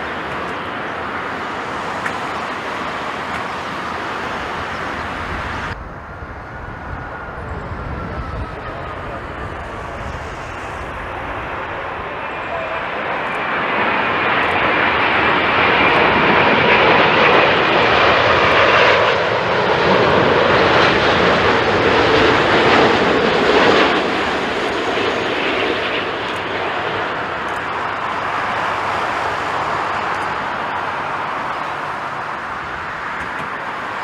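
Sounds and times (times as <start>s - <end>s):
jet airliner engines passing: 0.0s - 34.0s.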